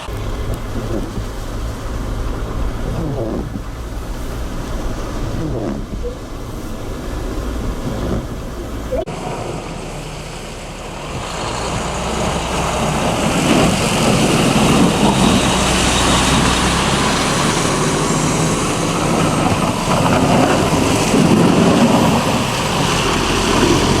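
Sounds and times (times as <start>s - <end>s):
highway traffic rushing: 0.0s - 24.0s
low truck engine drone: 0.0s - 24.0s.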